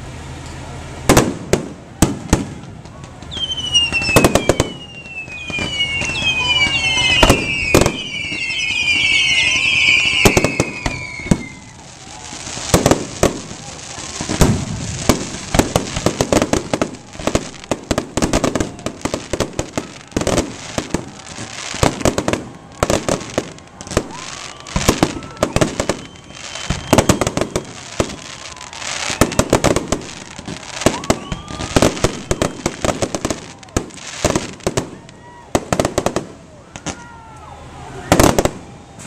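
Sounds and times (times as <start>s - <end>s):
fireworks bangs and crackling: 0.0s - 39.0s.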